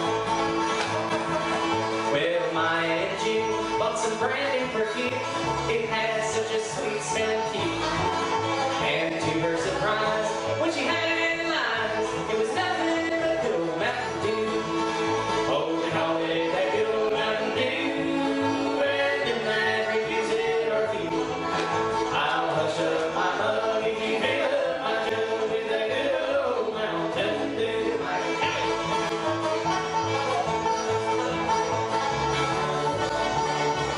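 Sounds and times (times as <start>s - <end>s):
bluegrass string band: 0.0s - 33.9s
person singing: 2.1s - 30.4s.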